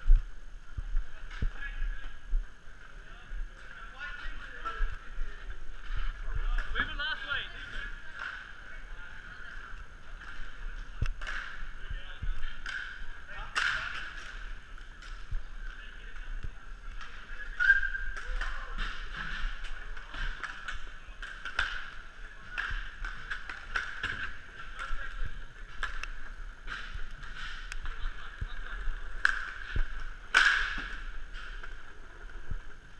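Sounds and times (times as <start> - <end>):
skate wheels rolling on tiles: 0.0 - 32.9
hockey sticks and puck clacking: 2.8 - 32.9.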